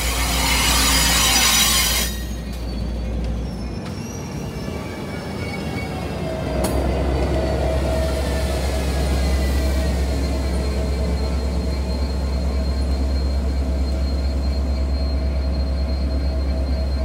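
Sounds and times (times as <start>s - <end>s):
diesel locomotive rumbling: 0.0s - 17.0s
train wheels squealing: 0.0s - 17.0s.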